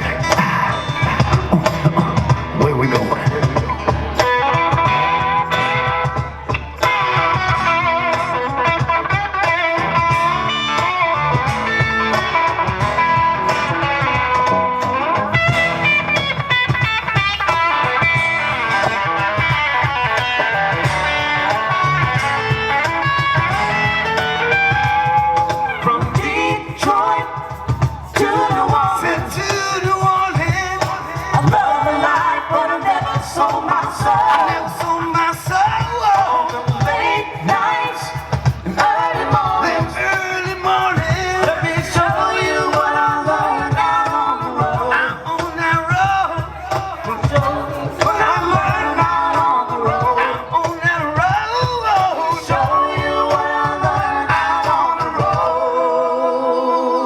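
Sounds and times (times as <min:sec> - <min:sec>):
steady drum beat: 0:00.0 - 0:55.6
bluesy electric guitar: 0:00.0 - 0:55.9
live rock band: 0:00.0 - 0:56.2.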